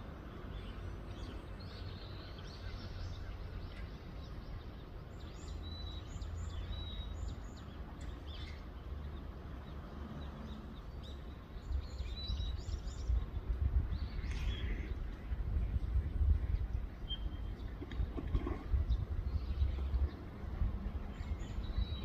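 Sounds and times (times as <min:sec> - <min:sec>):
low outdoor rumble: 0:00.0 - 0:22.0
small birds chirping: 0:00.3 - 0:22.0.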